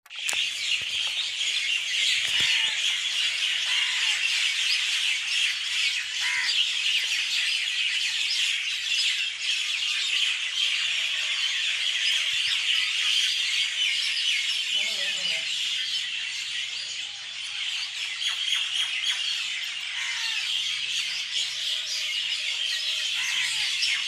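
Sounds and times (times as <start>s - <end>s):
birds chirping in chorus: 0.1s - 24.0s.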